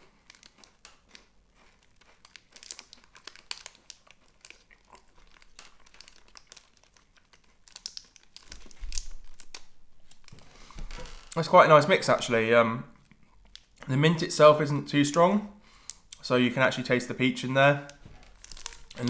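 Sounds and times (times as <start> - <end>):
candy wrapper crinkling and tearing: 0.0 - 15.2, 15.8 - 19.0.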